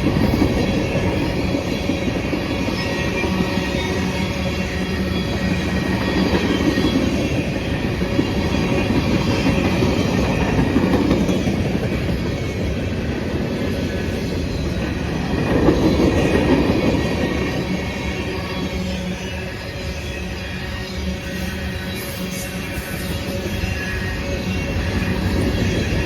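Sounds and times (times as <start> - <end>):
train cars rolling on rails: 0.0 - 26.0.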